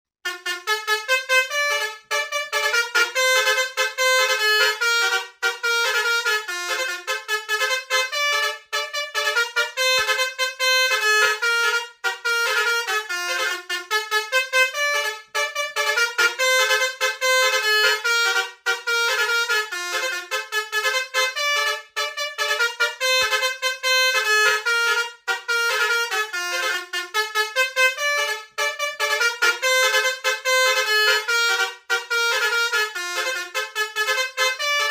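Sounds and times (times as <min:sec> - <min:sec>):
musical bus horn: 0:00.2 - 0:34.9.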